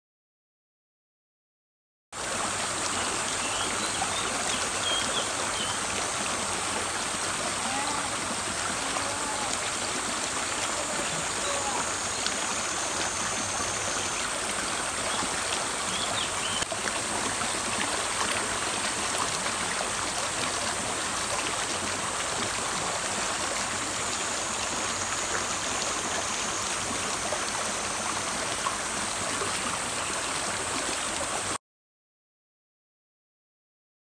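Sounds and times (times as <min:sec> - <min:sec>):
river flowing over stones: 0:02.2 - 0:31.6.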